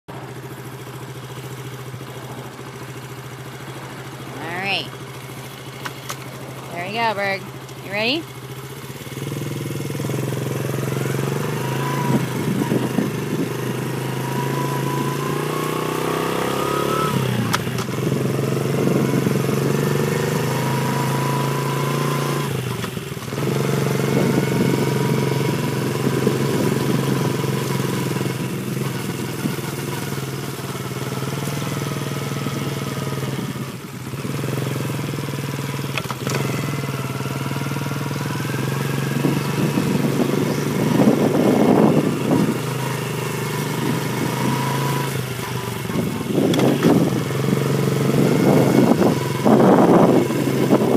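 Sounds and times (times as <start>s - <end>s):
dirt bike engine running: 0.1s - 50.9s.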